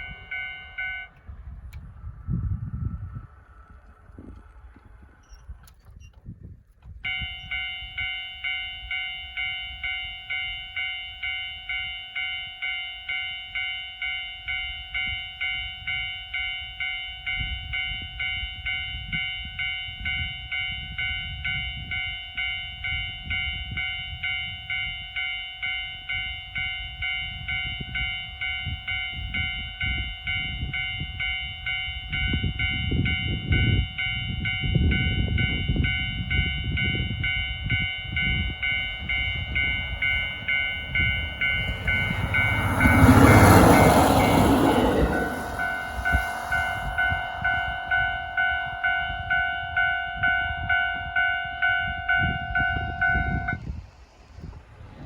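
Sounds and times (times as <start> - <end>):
level-crossing alarm bell ringing: 0.0 - 1.2, 7.0 - 53.6
train rumble: 0.0 - 55.0.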